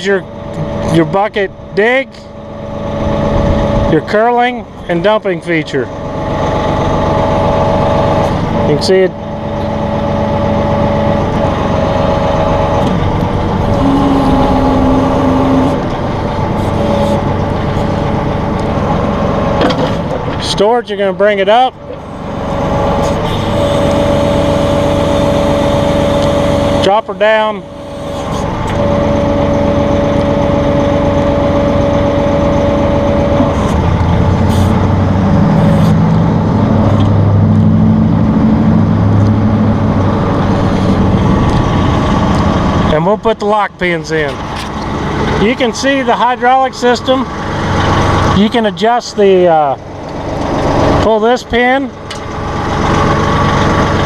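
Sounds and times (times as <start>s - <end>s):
low tone: 0.0s - 20.4s, 21.7s - 48.7s
tractor diesel engine running: 0.0s - 54.0s
hydraulic whine: 0.2s - 20.7s, 21.3s - 43.2s, 43.8s - 54.0s.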